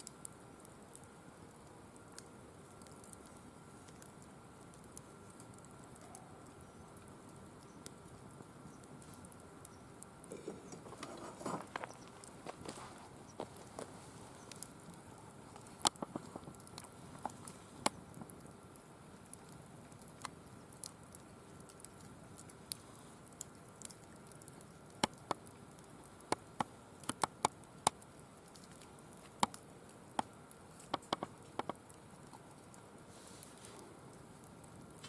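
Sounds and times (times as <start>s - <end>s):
firewood crackling and popping: 0.0s - 35.0s
low steady fire hiss: 0.0s - 35.0s.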